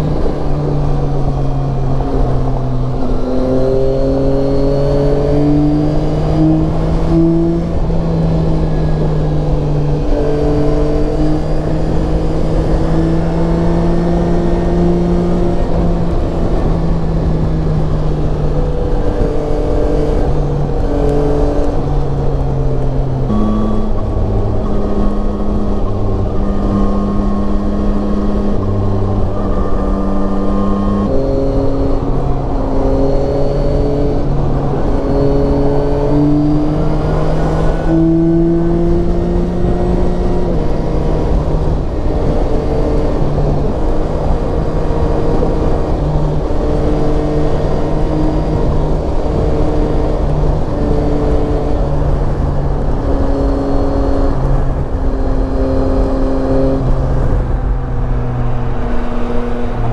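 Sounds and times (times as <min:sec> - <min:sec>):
wind noise: 0:00.0 - 0:59.9
motorcycle engine running: 0:05.1 - 0:59.9.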